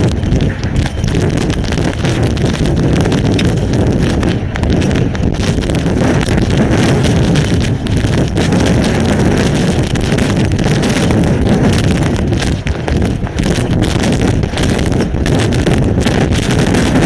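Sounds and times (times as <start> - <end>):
hail and rain striking: 0.0 - 17.0
strong wind gusting: 0.0 - 17.0.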